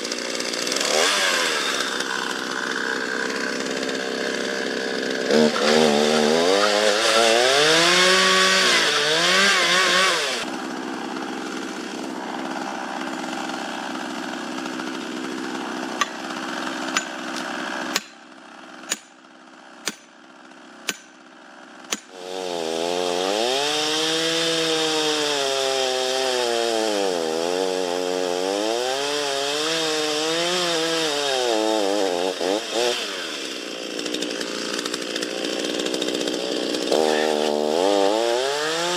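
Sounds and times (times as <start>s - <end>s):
chainsaw cutting: 0.0s - 38.9s.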